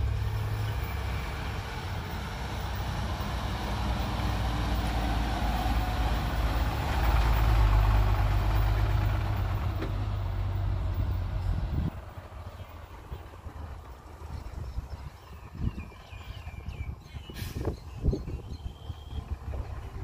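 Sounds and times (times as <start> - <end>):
dump truck engines rumbling past: 0.0 - 20.0.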